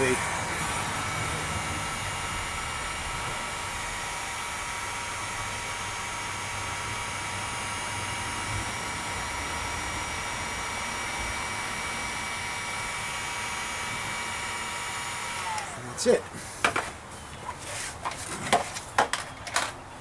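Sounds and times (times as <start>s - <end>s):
heat gun blowing air: 0.0s - 16.9s.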